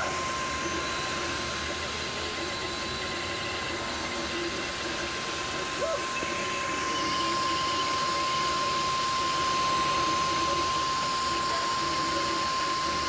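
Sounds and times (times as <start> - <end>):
cooling fan hiss: 0.0 - 13.0
stepper motors whining: 0.0 - 13.0.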